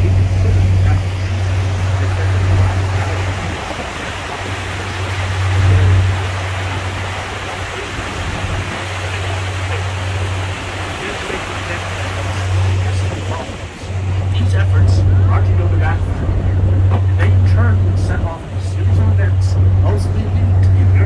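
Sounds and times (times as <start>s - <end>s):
boat engine droning low: 0.0s - 21.0s
boat wake water rushing: 0.0s - 21.0s
wind on microphone: 0.0s - 21.0s.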